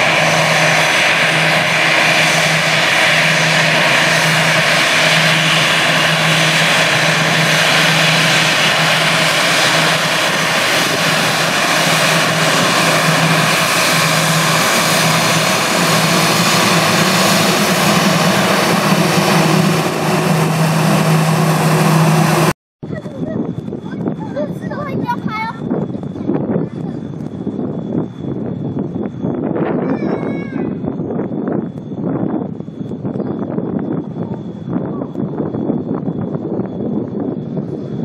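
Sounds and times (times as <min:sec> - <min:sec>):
beating low hum: 0:00.0 - 0:30.1, 0:30.8 - 0:38.0
jet engines at taxi power: 0:00.0 - 0:38.0.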